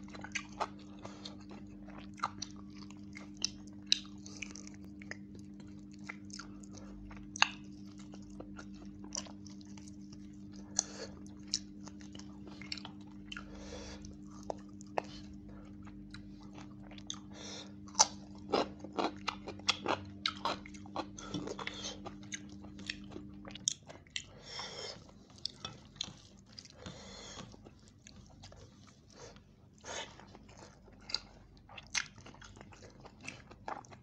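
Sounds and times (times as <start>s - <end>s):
steady low hum: 0.0s - 34.0s
wet chewing: 0.0s - 34.0s.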